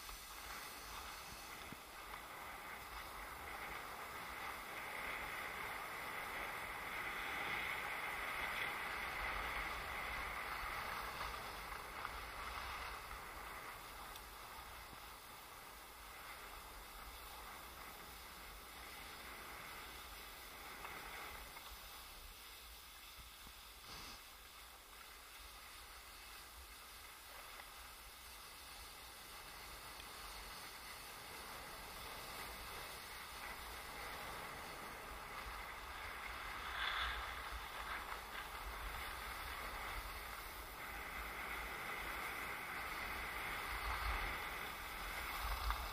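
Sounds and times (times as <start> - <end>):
skis scraping over packed snow: 0.0 - 45.9
wind rumbling on microphone: 0.0 - 45.9.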